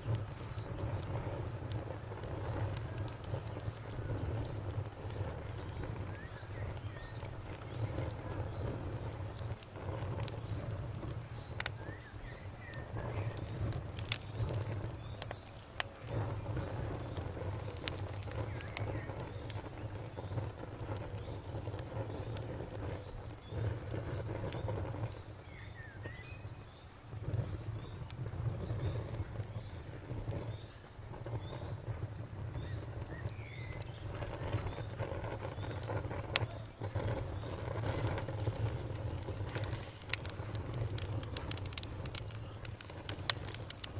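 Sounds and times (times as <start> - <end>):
cricket chirping: 0.0 - 43.9
wood fire crackling: 0.0 - 43.9.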